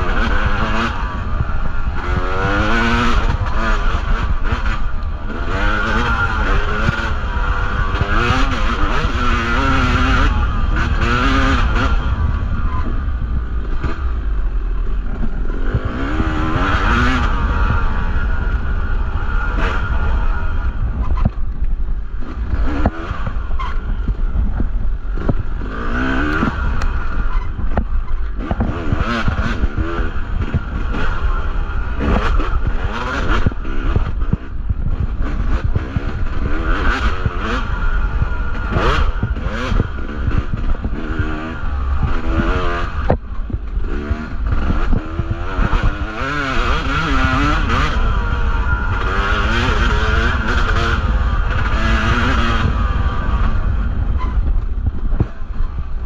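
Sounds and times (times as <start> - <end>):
dirt bike engine revving: 0.0 - 56.0
low rumble: 0.0 - 56.0.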